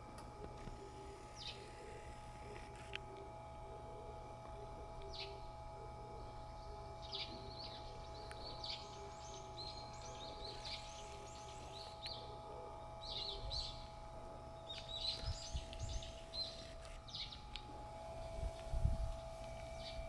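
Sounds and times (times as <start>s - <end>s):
faint steady hum: 0.0s - 20.0s
small birds chirping: 0.4s - 2.7s, 3.9s - 20.0s.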